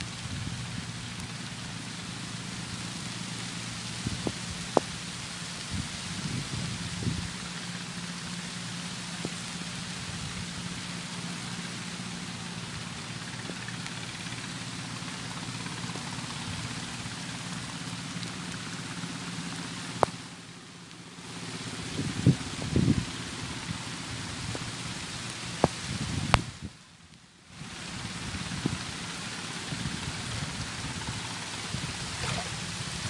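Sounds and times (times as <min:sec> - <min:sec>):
heavy rain on water and plants: 0:00.0 - 0:33.0
steady low hum: 0:00.0 - 0:33.0.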